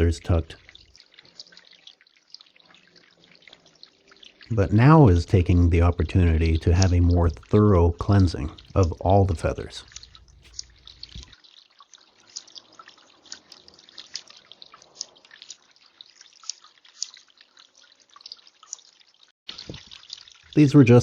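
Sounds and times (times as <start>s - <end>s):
water dripping onto pebbles: 0.0s - 21.0s.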